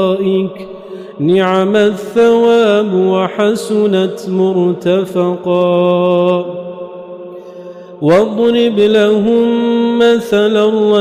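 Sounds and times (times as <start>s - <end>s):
man chanting recitation: 0.0s - 7.2s, 8.0s - 11.0s.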